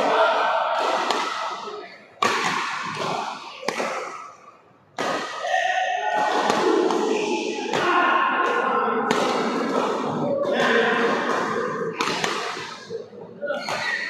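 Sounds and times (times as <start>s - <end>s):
rackets hitting shuttlecock: 0.0s - 4.3s, 5.0s - 13.0s
voices: 0.0s - 14.0s.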